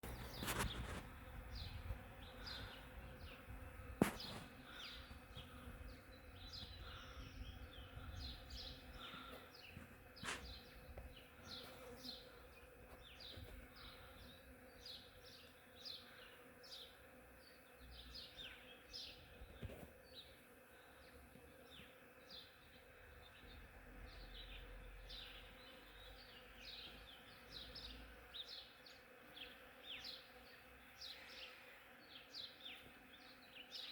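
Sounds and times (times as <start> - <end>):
bees droning buzz: 0.0 - 33.9.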